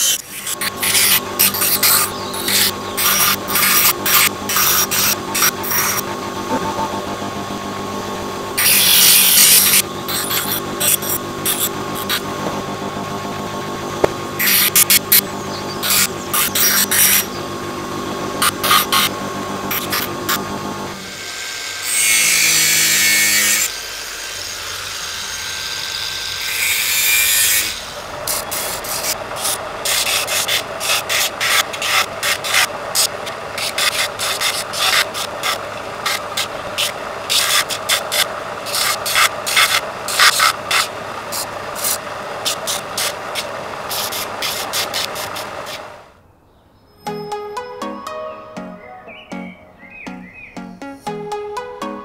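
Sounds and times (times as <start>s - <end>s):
blade scraping on sander belt: 0.0s - 7.2s, 8.6s - 12.7s, 14.0s - 15.2s, 15.8s - 17.4s, 18.4s - 46.0s
bench grinder grinding metal: 0.0s - 46.0s.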